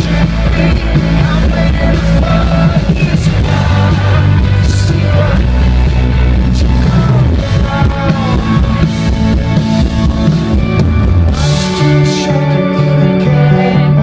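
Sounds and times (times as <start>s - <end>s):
repeating bass pattern: 0.0s - 14.0s
rock band playing live: 0.0s - 14.0s.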